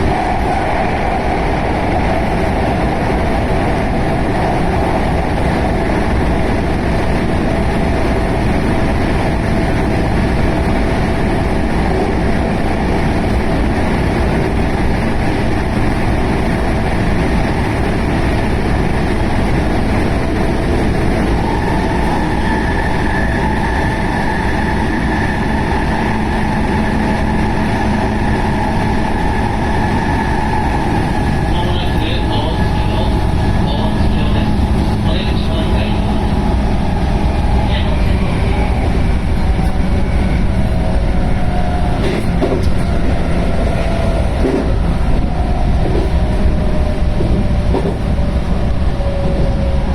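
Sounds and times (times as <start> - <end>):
steady whine: 0.0 - 49.9
train wheels rumbling on rail: 0.0 - 49.9.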